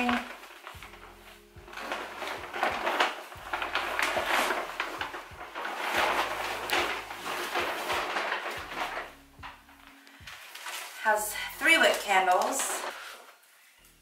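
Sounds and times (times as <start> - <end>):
paper bag rustling and crinkling: 0.0 - 13.7.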